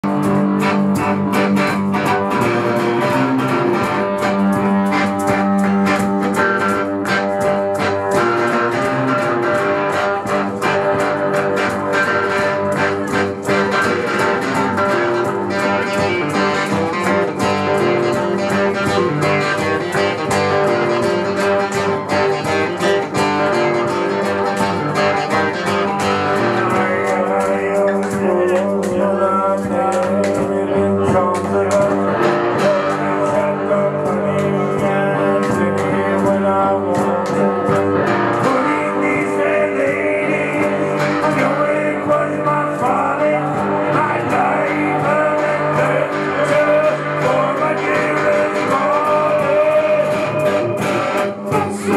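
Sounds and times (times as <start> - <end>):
acoustic guitar: 0.0 - 51.9
electric guitar: 0.0 - 51.9.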